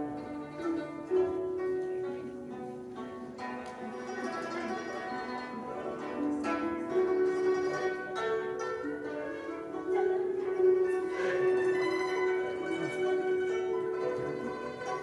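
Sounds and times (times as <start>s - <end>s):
plucked zither ensemble: 0.0s - 15.0s.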